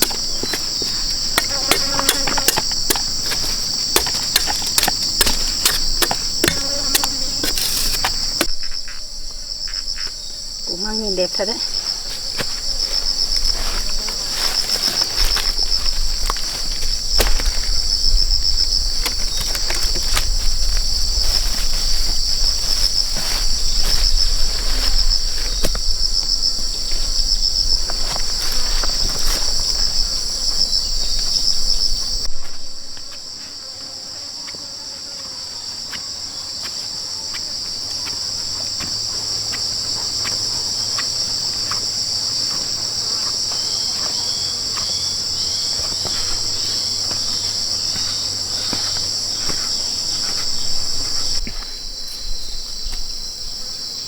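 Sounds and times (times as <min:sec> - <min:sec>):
insects buzzing trill: 0:00.0 - 0:54.0.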